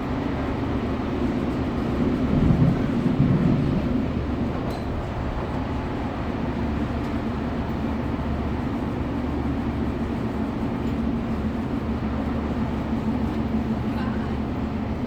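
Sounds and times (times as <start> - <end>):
diesel train engine drone: 0.0 - 15.0.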